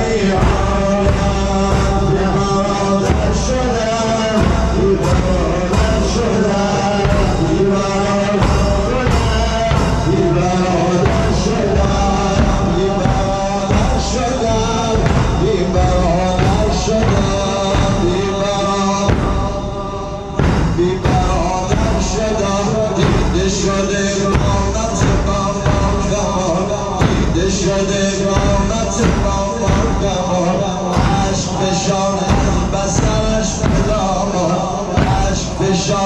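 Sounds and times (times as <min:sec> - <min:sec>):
bass drums and cymbals beating: 0:00.0 - 0:36.0
man chanting a lament: 0:00.0 - 0:36.0.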